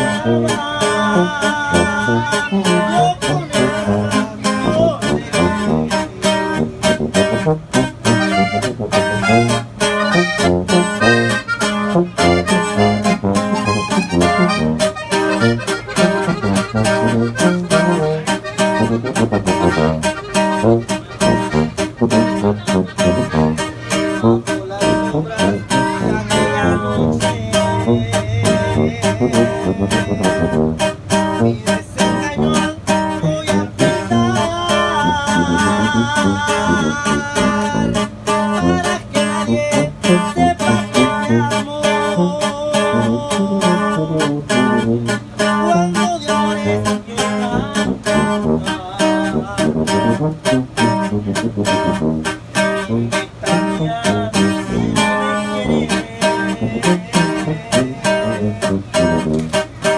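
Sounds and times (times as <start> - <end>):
button accordion: 0.0 - 48.8, 49.4 - 59.9
sousaphone: 0.0 - 51.0, 51.6 - 59.9
acoustic guitar: 0.0 - 59.9.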